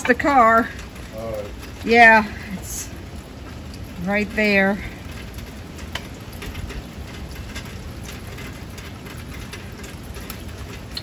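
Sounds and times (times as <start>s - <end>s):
drops ticking on surfaces: 0.0s - 11.0s
gusting wind: 0.0s - 11.0s
steady rain: 0.0s - 11.0s.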